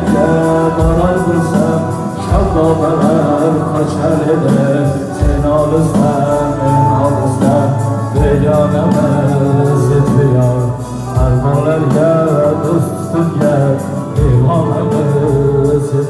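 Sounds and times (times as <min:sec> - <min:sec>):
amplified music: 0:00.0 - 0:16.0
men singing together: 0:00.0 - 0:16.0.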